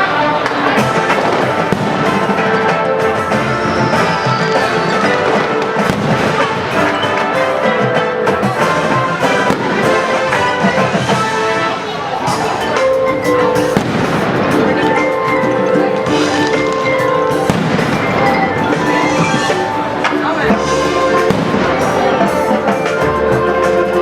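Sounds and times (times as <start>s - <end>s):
fireworks bursting and crackling: 0.0s - 23.7s
music: 0.0s - 24.0s.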